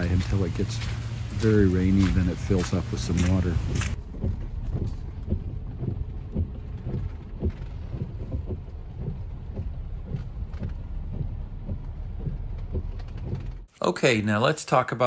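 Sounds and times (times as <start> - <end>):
low rumbling inside vehicle cab: 0.0 - 13.7
small irregular thuds: 0.0 - 13.7.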